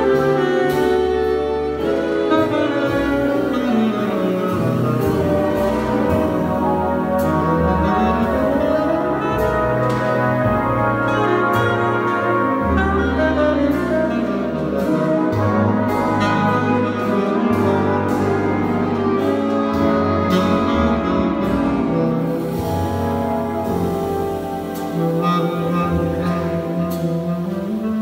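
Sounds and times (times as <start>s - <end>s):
big band brass and saxophones: 0.0s - 28.0s
drum kit strokes: 0.0s - 28.0s
low bass notes: 0.0s - 28.0s.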